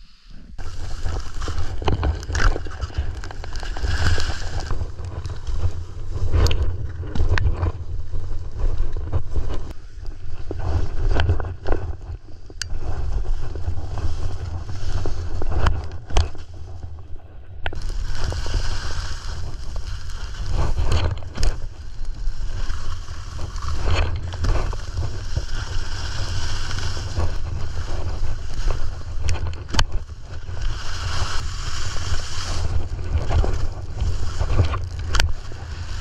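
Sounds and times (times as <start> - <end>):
skis scraping over snow: 0.0 - 36.0
wind rumble on microphone: 0.0 - 36.0.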